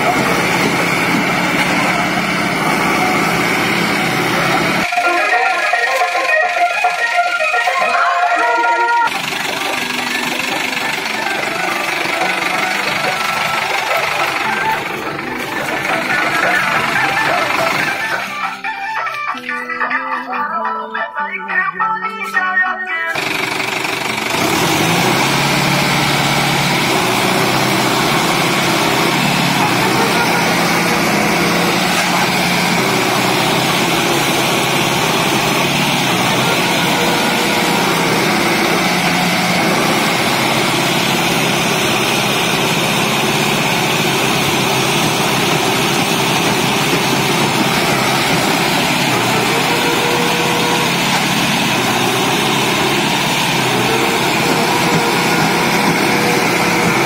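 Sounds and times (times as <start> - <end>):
tractor diesel engine running hard: 0.0 - 20.6, 23.0 - 57.0.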